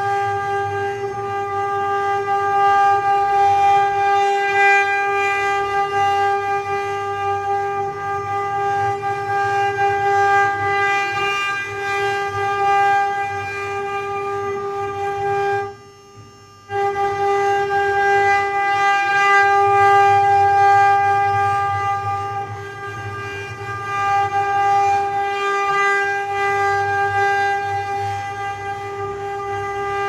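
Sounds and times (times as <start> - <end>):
spindle motor whine: 0.0 - 30.0.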